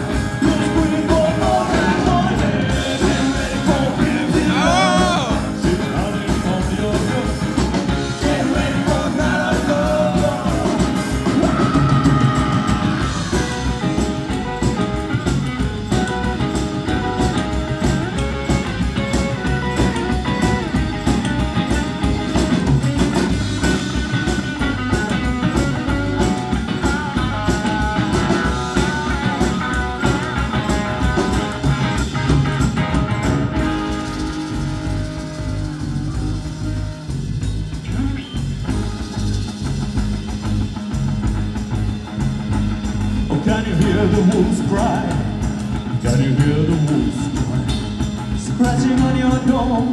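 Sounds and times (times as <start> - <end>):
drum kit: 0.0 - 49.9
electric guitar: 0.0 - 49.9
plucked double bass: 0.0 - 49.9.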